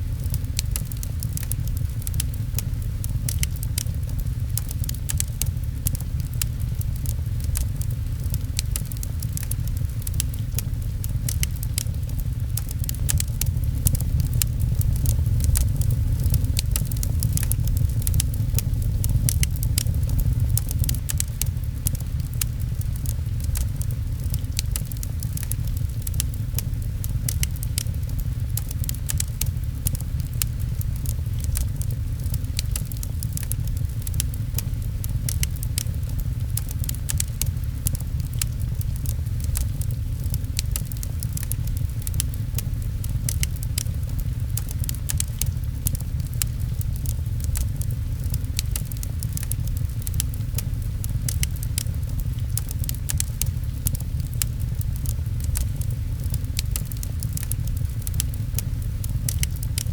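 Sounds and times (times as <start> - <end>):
rain pattering on window: 0.0 - 59.9
wood fire crackling: 0.0 - 59.9.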